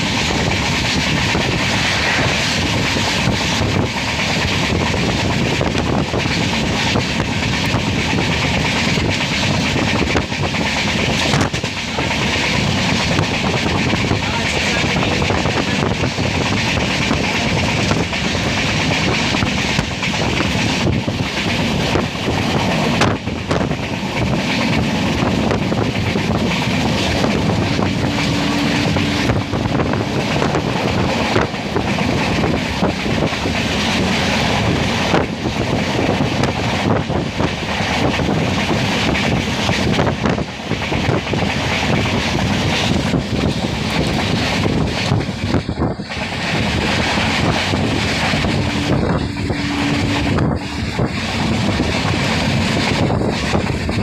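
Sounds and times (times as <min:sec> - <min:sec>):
train wheels clattering on rails: 0:00.0 - 0:54.0
wind buffeting microphone: 0:00.0 - 0:54.0.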